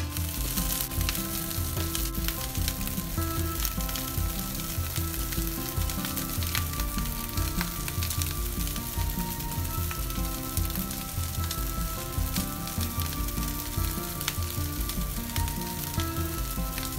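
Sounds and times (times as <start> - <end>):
background music with bass line: 0.0 - 16.9
rice sizzling in frying pan: 0.0 - 16.9.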